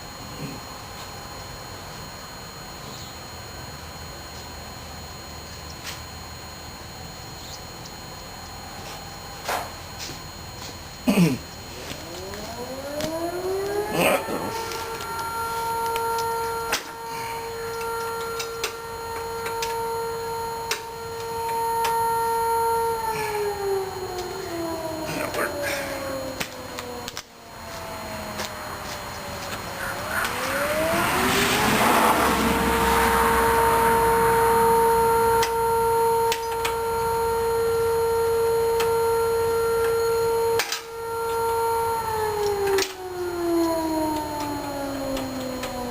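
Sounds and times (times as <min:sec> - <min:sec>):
high-pitched mechanical whine: 0:00.0 - 0:45.9
warning siren wailing: 0:00.0 - 0:45.9.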